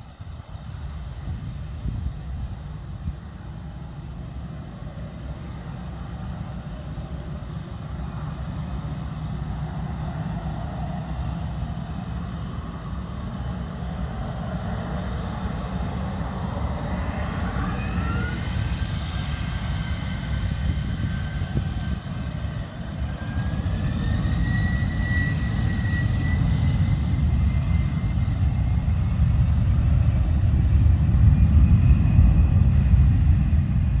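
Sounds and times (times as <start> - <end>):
rising engine whine: 0.0 - 34.0
jet engines spooling up: 3.4 - 34.0.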